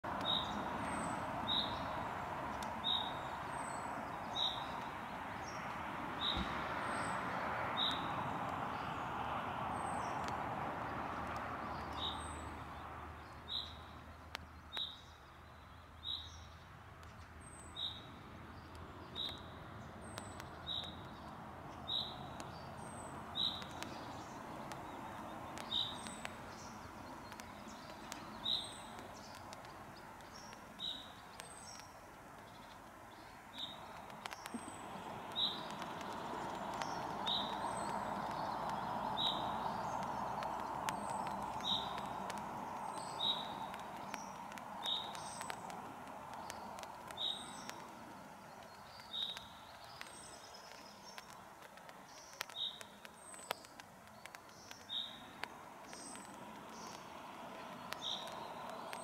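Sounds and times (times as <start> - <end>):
bird chirping: 0.0 - 9.1, 11.1 - 59.0
light rain on a lake: 0.0 - 59.0.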